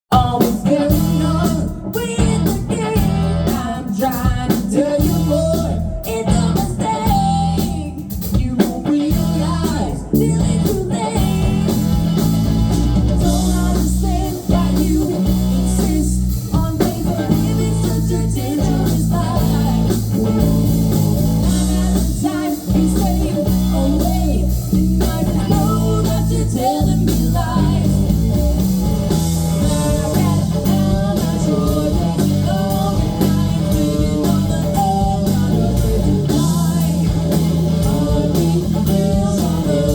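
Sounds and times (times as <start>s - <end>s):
blues-rock band playing: 0.1s - 39.9s
electric guitar: 0.1s - 39.9s.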